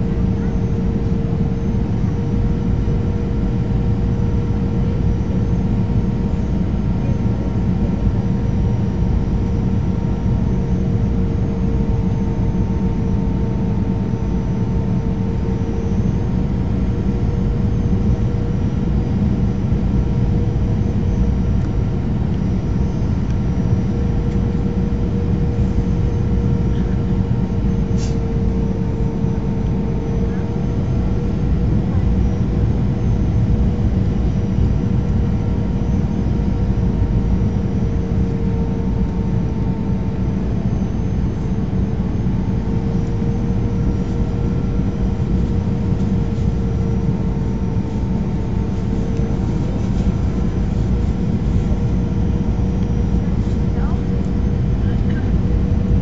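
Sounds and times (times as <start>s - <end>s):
airplane cabin engine drone: 0.0s - 56.0s
constant hum: 0.0s - 56.0s.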